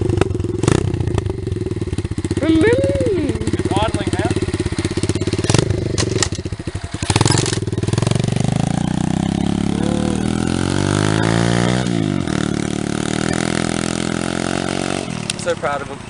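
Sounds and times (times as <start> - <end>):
motorbike engine idling and revving: 0.0 - 16.0.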